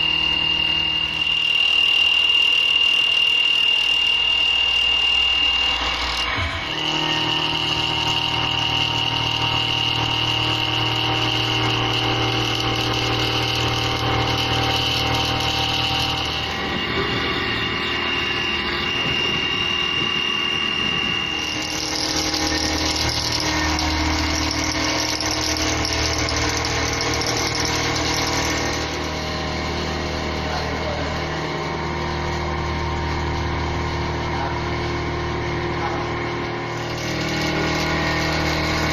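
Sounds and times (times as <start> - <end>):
milling machine spindle whine: 0.0 - 38.9.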